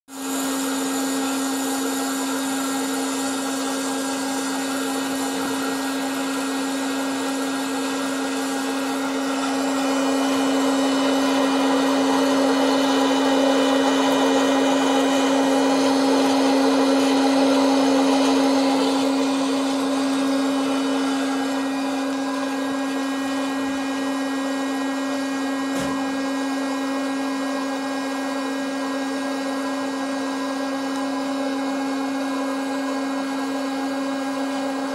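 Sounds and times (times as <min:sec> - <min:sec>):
popcorn maker fan motor hum: 0:00.1 - 0:34.9.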